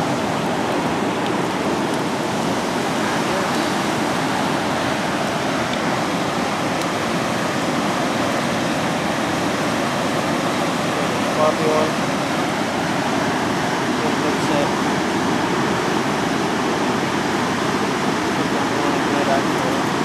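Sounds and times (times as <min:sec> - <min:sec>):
water rushing through a dam: 0:00.0 - 0:20.0.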